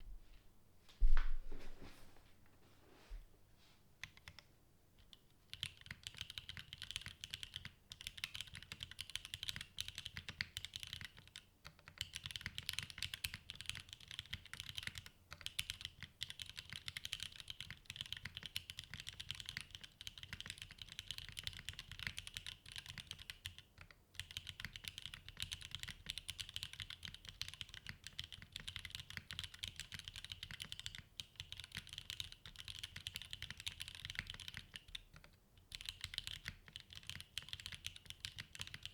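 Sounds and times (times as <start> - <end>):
mechanical keyboard typing: 5.5 - 38.9.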